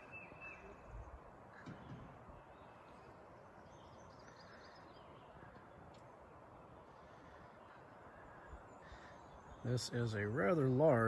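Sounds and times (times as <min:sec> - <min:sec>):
distant bird chirps: 0:00.0 - 0:11.0
low steady hiss: 0:00.0 - 0:11.0.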